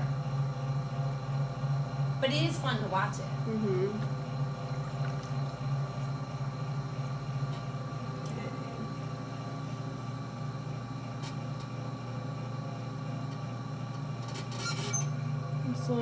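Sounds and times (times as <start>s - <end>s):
pottery wheel motor humming: 0.0s - 16.0s.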